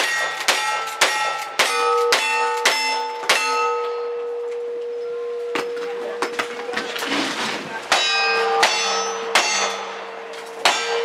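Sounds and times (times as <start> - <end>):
steel target ringing: 0.0 - 6.7, 7.9 - 11.0.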